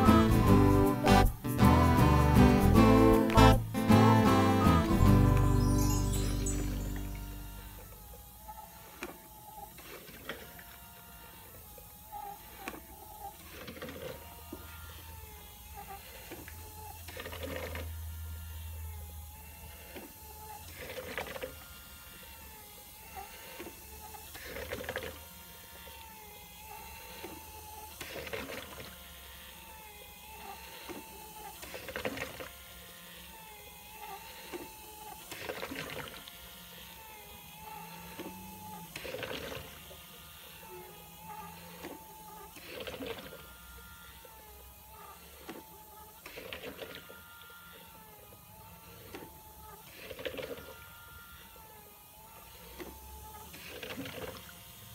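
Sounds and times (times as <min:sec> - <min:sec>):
motor whining: 0:00.0 - 0:54.9.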